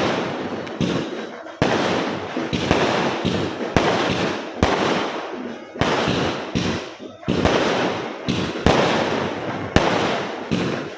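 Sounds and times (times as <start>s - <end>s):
firecracker bangs echoing: 0.0s - 10.9s.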